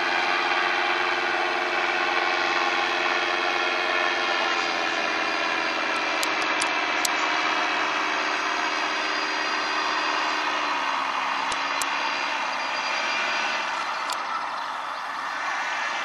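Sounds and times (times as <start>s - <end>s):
paramotor engine and propeller: 0.0s - 16.0s.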